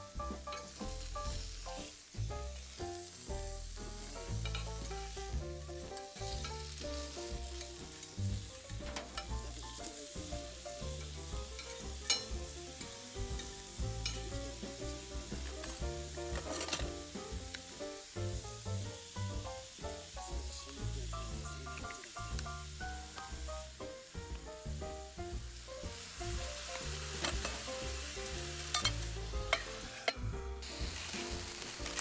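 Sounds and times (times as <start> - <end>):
background music with walking bass: 0.0 - 32.0
food sizzling on griddle: 0.0 - 32.0.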